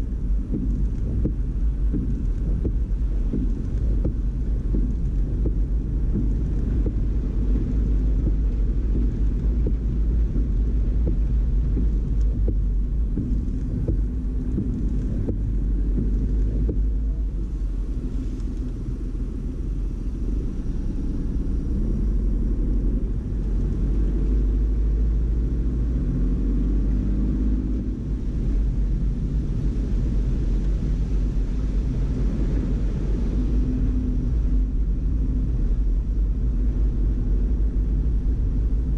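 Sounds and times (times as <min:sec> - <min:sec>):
car engine rumble: 0:00.0 - 0:38.9
tyres on wet road: 0:00.0 - 0:38.9.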